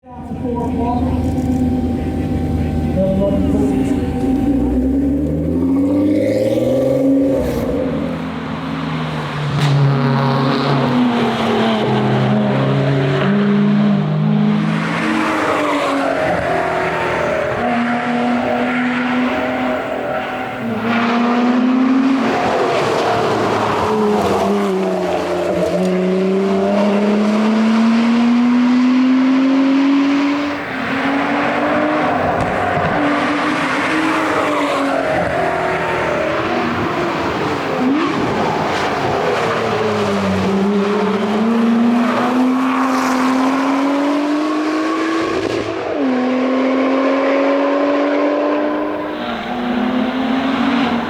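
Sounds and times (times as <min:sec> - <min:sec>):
car engine revving through gears: 0:00.4 - 0:51.0.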